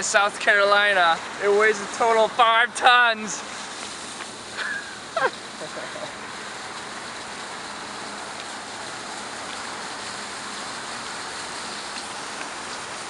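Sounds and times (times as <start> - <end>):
fountain water splashing on rocks: 0.0 - 13.0.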